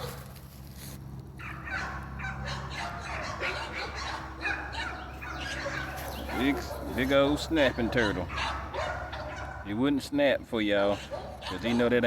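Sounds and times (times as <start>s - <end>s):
birds calling: 1.4s - 10.0s, 10.7s - 12.0s.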